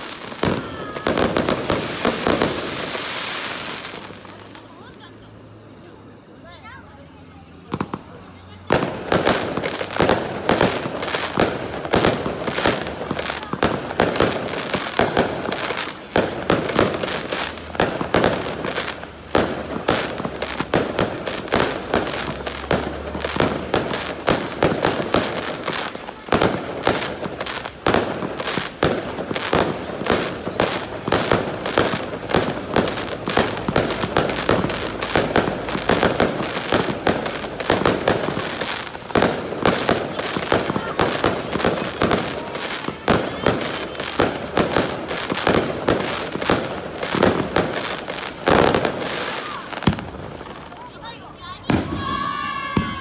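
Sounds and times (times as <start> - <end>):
fireworks bursting: 0.0 - 53.0.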